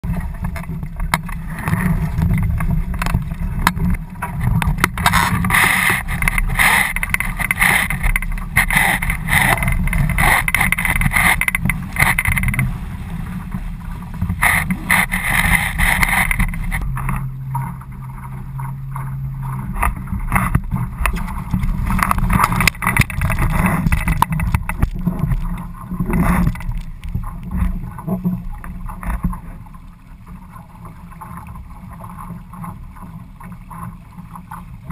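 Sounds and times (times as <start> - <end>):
low rumble: 0.0 - 34.9
water splashing along hull: 0.0 - 34.9.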